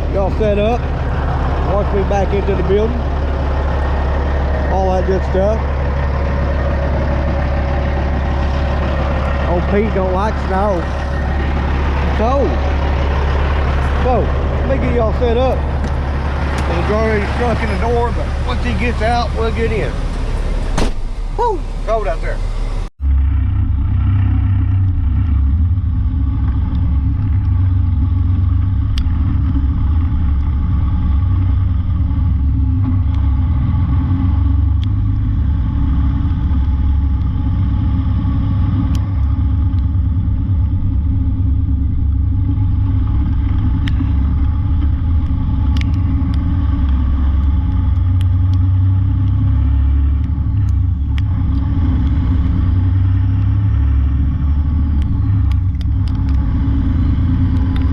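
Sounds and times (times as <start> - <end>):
diesel truck engine rumbling: 0.0 - 57.9.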